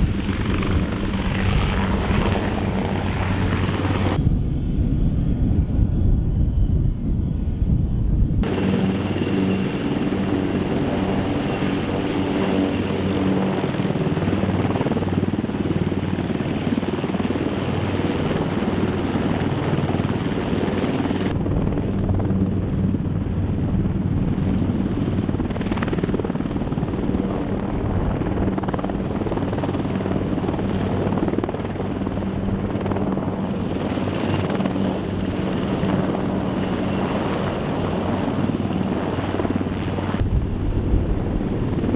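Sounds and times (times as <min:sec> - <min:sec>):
helicopter rotor and turbine hum: 0:00.0 - 0:41.9.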